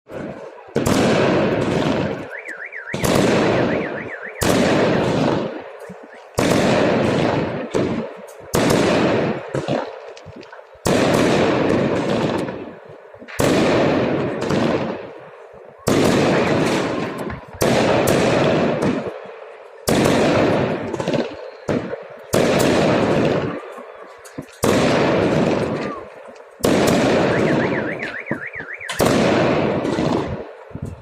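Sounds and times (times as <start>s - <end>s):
crackling rumble: 0.1s - 31.0s
fireworks bangs: 0.1s - 31.0s.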